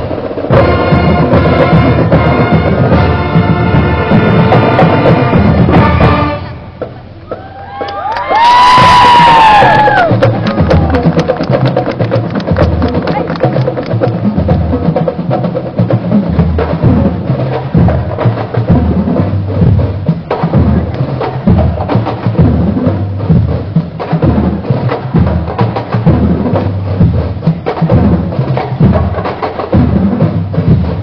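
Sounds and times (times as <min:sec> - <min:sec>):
bass drum beats: 0:00.0 - 0:31.0.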